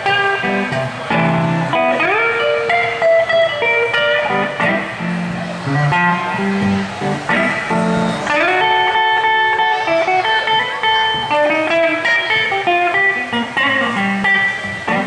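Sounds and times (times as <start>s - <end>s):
electric guitar blues solo: 0.0s - 15.0s.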